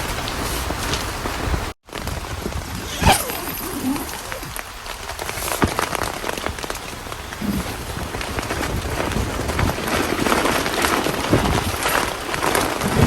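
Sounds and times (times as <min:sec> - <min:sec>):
steady rain pattering: 0:00.0 - 0:13.0.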